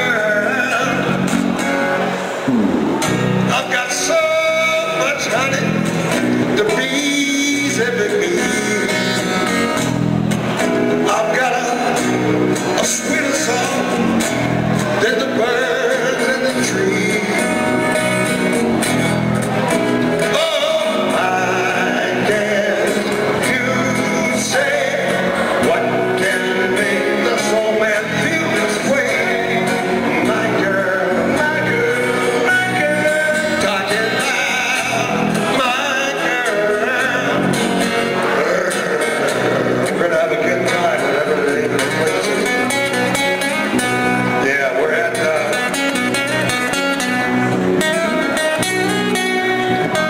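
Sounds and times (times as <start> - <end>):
man singing through speaker: 0.0 - 9.7, 11.0 - 18.4, 20.2 - 47.2
strummed acoustic guitar: 0.0 - 50.0.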